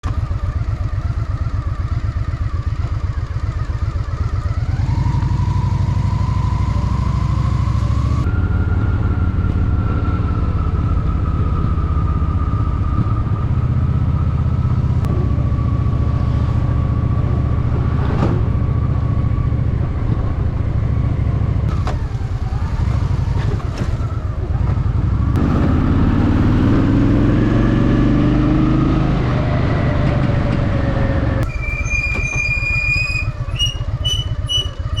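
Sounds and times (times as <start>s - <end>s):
motorcycle engine throbbing: 0.0s - 35.0s.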